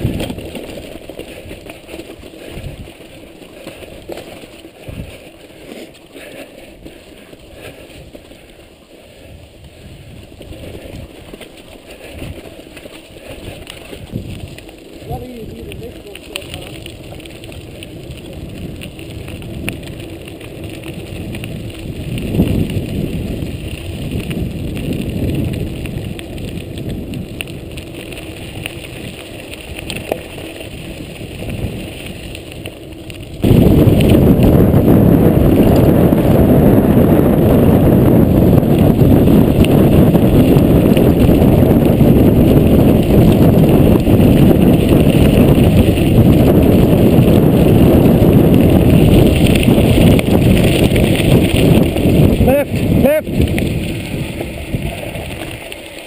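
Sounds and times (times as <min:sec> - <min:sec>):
wind on microphone: 0:00.0 - 0:05.6, 0:09.1 - 0:56.0
bike rattling: 0:00.0 - 0:56.0
bike tyres on gravel: 0:00.0 - 0:56.0.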